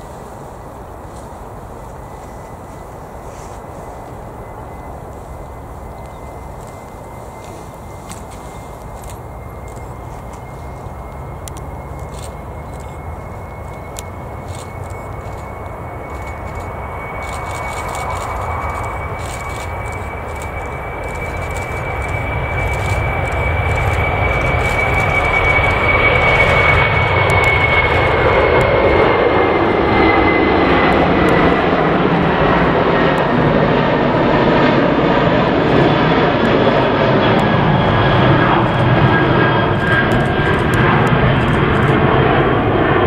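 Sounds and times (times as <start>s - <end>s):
high engine whine: 0.0s - 43.0s
jet engines roaring: 0.0s - 43.0s.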